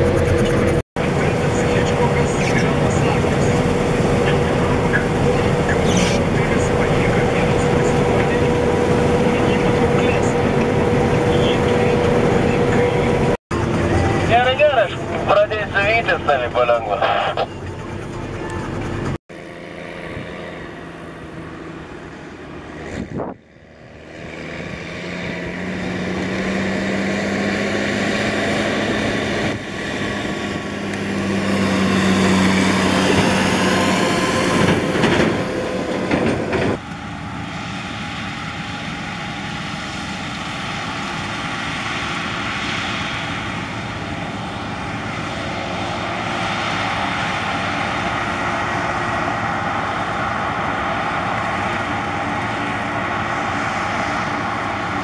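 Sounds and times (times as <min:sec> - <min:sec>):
road noise: 0:00.0 - 0:55.0
tractor diesel engine running: 0:00.0 - 0:55.0.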